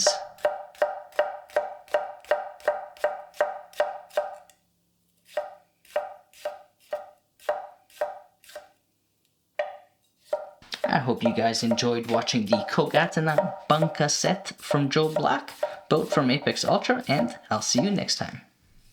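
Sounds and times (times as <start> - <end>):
knife chopping on cutting board: 0.2 - 4.4, 5.3 - 8.7, 9.6 - 18.0.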